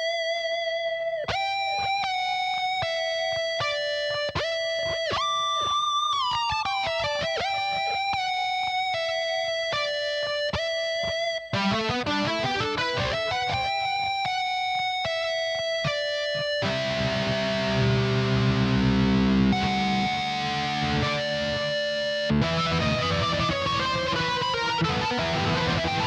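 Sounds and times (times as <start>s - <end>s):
keytar with guitar-like lead: 0.0s - 26.0s.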